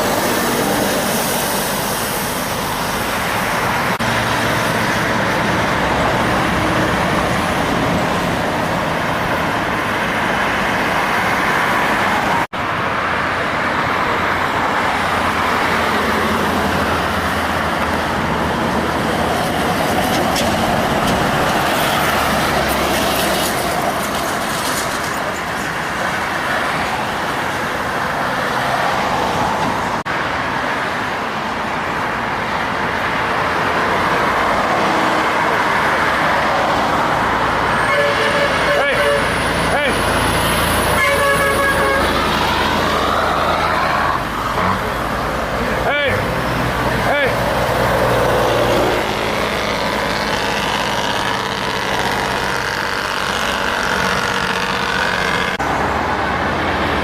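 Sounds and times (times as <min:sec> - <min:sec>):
highway traffic passing: 0:00.0 - 0:57.0.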